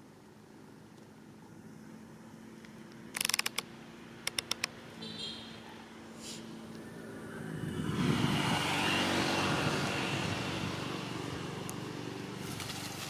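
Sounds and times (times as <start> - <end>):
engine passing by: 0.6 - 13.0.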